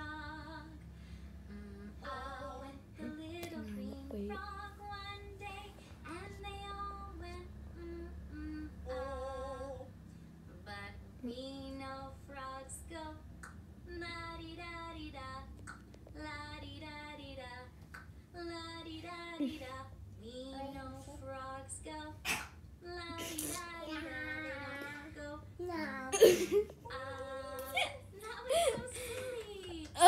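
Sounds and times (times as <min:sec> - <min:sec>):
steady low hum: 0:00.0 - 0:30.0
woman singing a children's song: 0:00.0 - 0:30.0.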